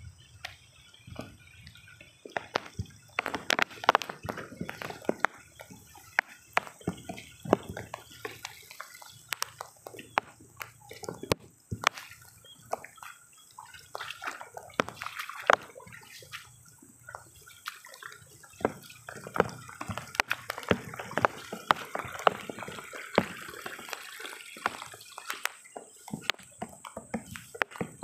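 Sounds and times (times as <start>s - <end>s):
footsteps squelching through mud: 2.2s - 28.0s
sharp splats: 2.3s - 28.0s.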